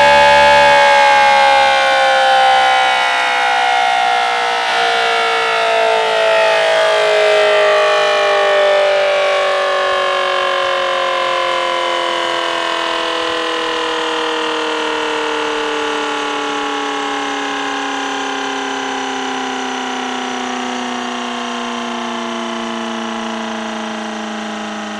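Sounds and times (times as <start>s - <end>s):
two-tone siren winding down: 0.0s - 24.9s.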